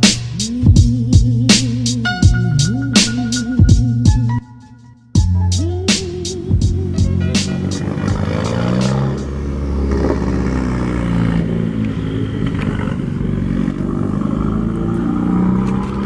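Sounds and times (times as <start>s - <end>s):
car engine being blipped: 0.0s - 16.0s.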